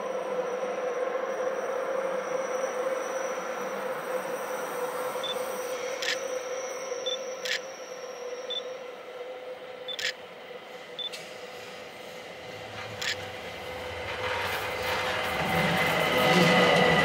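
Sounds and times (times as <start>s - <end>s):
electric train approaching: 0.0s - 17.0s.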